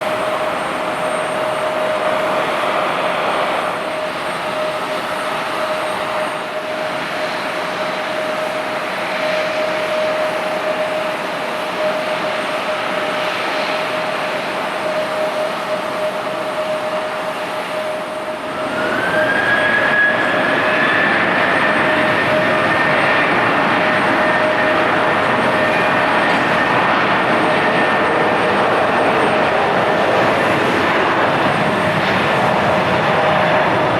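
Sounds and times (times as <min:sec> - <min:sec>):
jet engines whining: 0:00.0 - 0:33.9.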